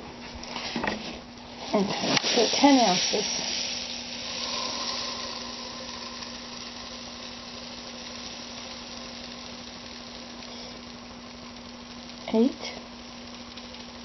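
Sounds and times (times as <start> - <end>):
low steady hum: 0.0 - 14.0
steady hiss: 0.0 - 14.0.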